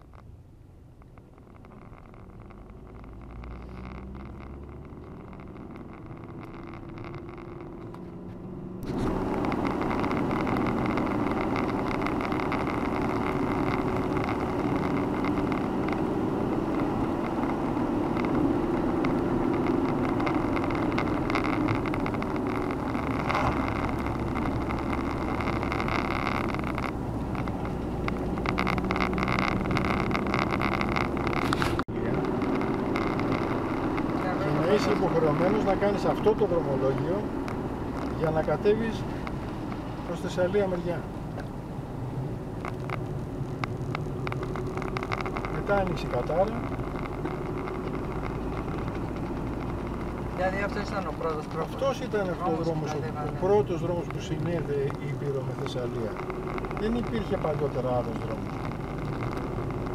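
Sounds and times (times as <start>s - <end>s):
car engine hum: 0.0s - 59.9s
road noise: 0.0s - 59.9s.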